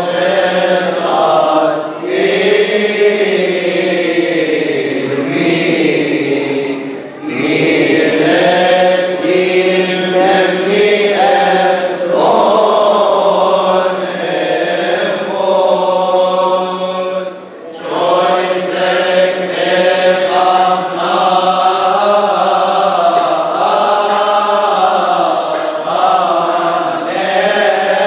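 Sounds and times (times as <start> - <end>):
men chanting: 0.0 - 28.0.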